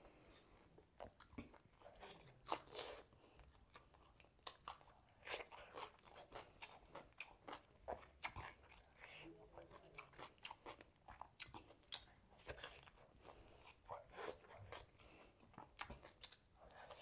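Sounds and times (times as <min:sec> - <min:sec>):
wet chewing: 0:00.1 - 0:17.0.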